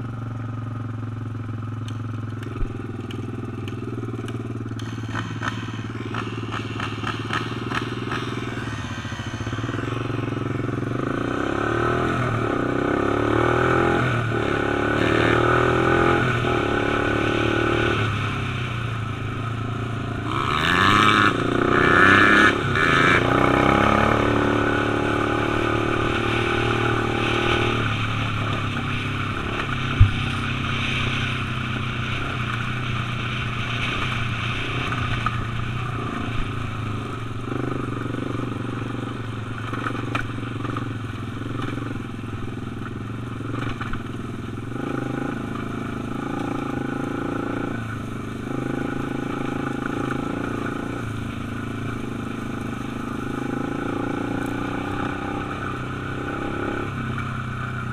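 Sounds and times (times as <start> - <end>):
quad engine running: 0.0 - 57.9.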